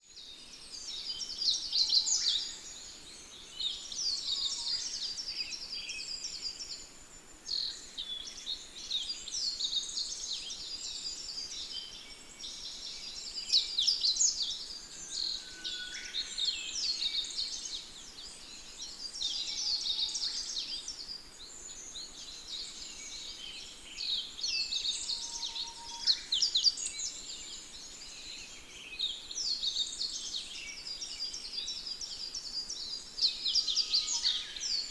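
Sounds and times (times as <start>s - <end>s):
birds chirping and singing: 0.0s - 34.9s.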